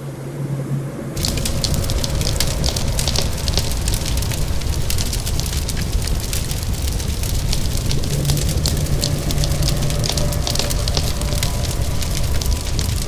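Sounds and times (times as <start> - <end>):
steady rain: 1.2 - 13.0
wood fire crackling and popping: 1.2 - 13.0.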